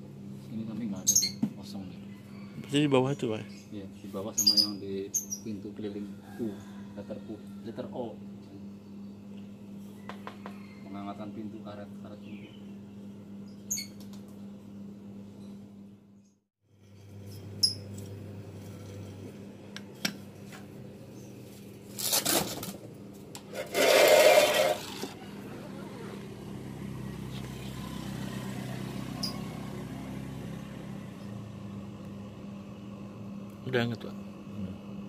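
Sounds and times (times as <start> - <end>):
refrigerator compressor humming: 0.0 - 35.0.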